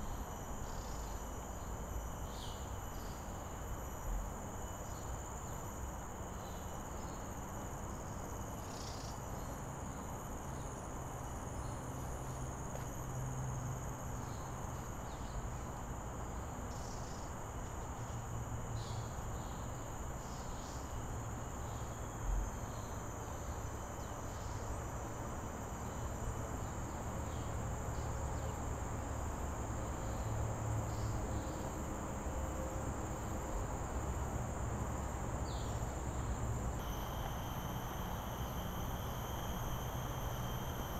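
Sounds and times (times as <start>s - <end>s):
forest insects chorus: 0.0s - 40.9s.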